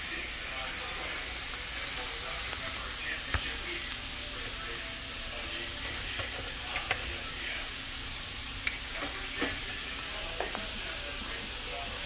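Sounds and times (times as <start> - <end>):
meat and onions sizzling on griddle: 0.0 - 12.0.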